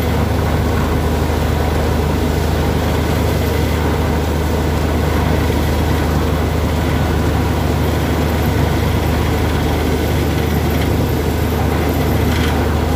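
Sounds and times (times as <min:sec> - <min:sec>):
drilling rig engine hum: 0:00.0 - 0:12.9.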